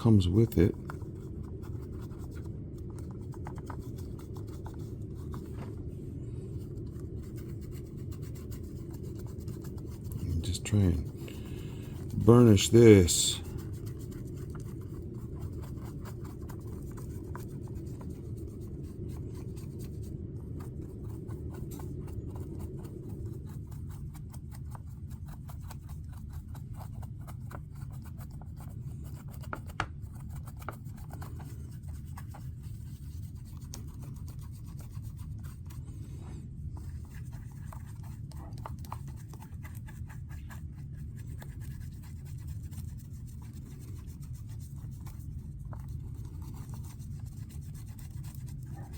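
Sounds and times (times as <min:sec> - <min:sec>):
brush scratching in a mold: 0:00.0 - 0:48.9
steady low hum: 0:00.0 - 0:48.9.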